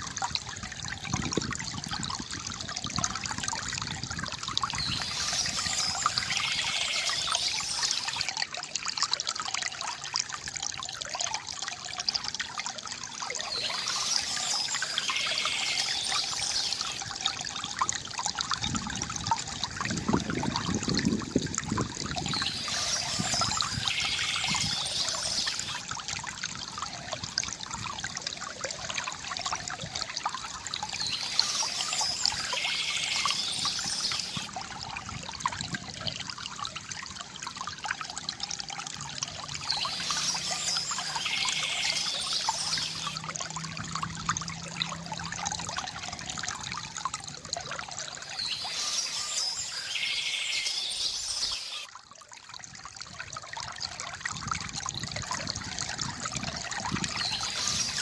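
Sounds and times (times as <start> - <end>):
water trickling into a basin: 0.0 - 58.0.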